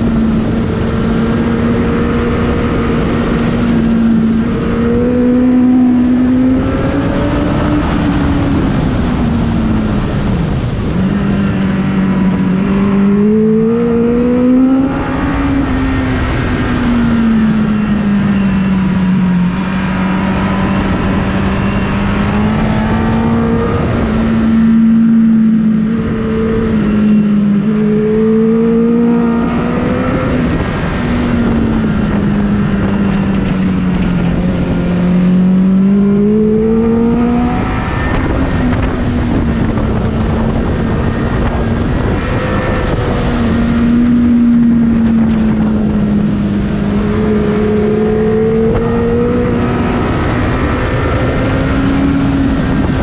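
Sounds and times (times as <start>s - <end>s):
motorcycle engine running hard: 0.0s - 53.0s
wind noise: 0.0s - 53.0s.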